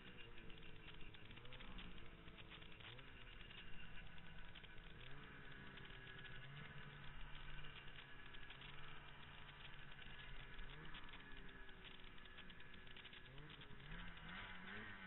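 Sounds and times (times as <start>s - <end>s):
snowmobile engine revving: 2.6s - 15.0s.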